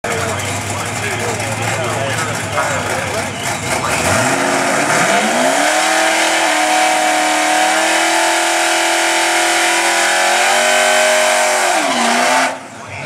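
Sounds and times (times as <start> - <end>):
car engine revving: 0.1 - 13.0
tyres spinning in burnout: 0.1 - 13.0.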